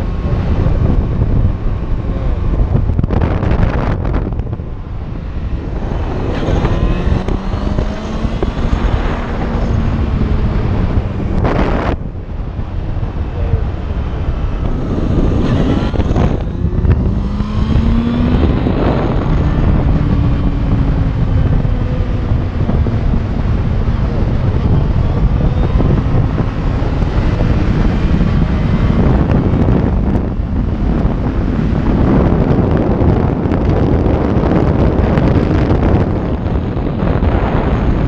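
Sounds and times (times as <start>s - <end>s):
motorcycle engine accelerating: 0.0s - 38.0s
wind roaring across microphone: 0.0s - 38.0s.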